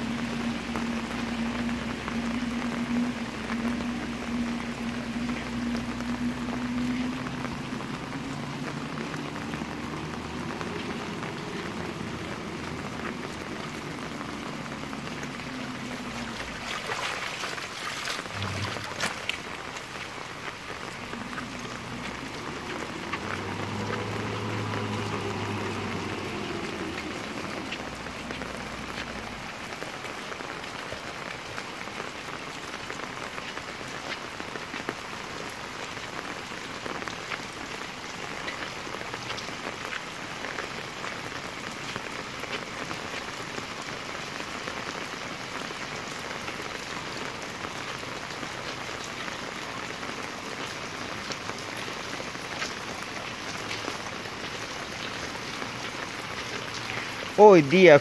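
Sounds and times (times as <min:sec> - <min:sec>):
heavy rain on cobblestones: 0:00.0 - 0:58.0.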